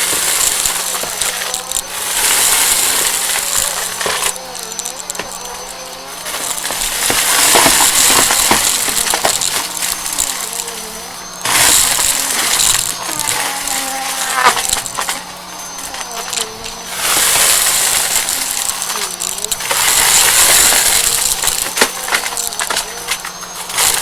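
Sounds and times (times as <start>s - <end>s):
clicks and rattles: 0.0s - 24.0s
vacuum cleaner running: 0.0s - 24.0s.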